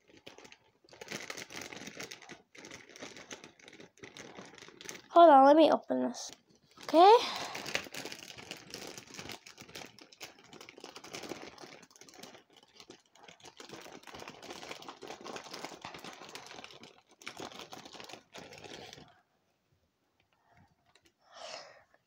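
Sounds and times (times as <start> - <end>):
plastic toys clicking and rattling: 0.0 - 5.5, 6.3 - 19.2
plastic bags rustling: 0.0 - 5.6, 6.3 - 19.2.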